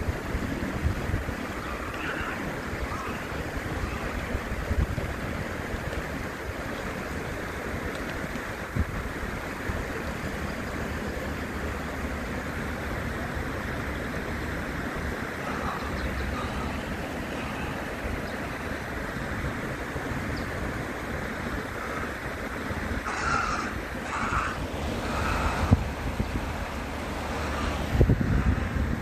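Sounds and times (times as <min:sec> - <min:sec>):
stream water running over rocks: 0:00.0 - 0:28.9.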